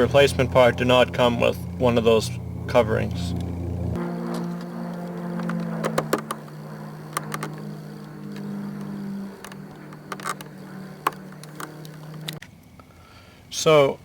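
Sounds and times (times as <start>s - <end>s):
low hum: 0.0s - 13.3s.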